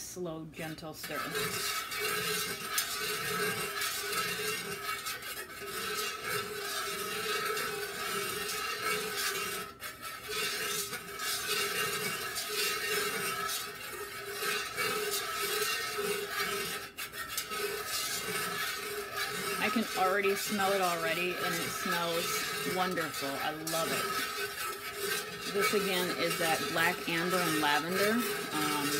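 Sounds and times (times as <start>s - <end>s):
metal utensil scraping metal pitcher: 0.6s - 28.9s.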